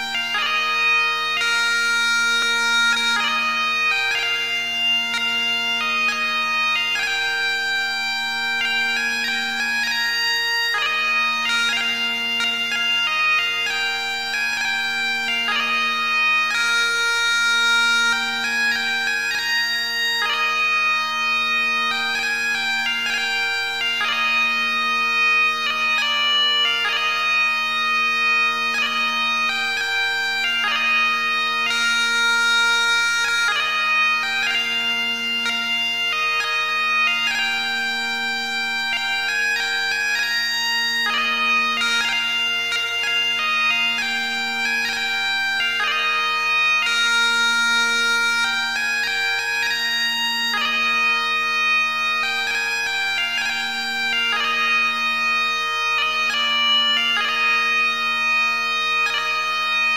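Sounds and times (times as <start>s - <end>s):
bagpipes playing: 0.0s - 59.9s.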